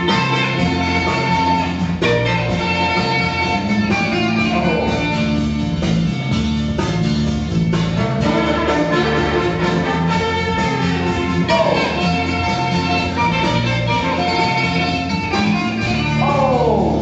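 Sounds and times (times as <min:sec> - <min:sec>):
loud music with steady bass line: 0:00.0 - 0:17.0.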